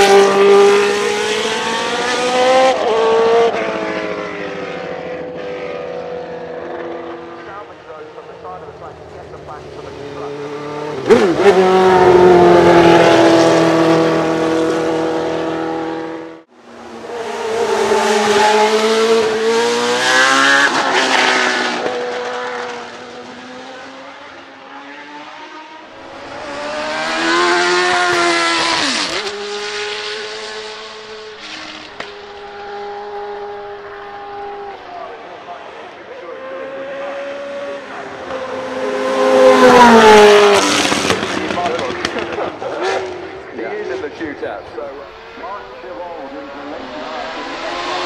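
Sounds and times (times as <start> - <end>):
racing car engine revving: 0.0 - 48.0.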